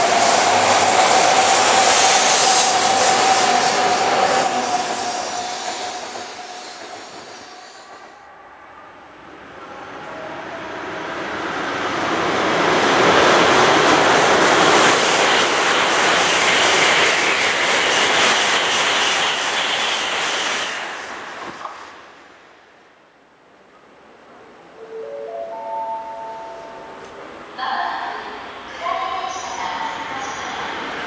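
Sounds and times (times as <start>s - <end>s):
high-speed train passing: 0.0s - 31.0s.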